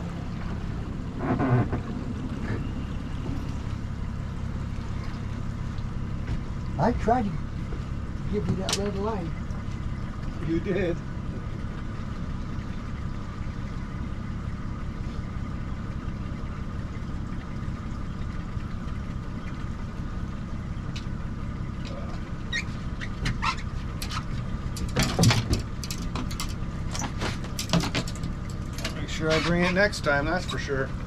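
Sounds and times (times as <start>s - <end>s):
outboard motor humming: 0.0s - 31.0s.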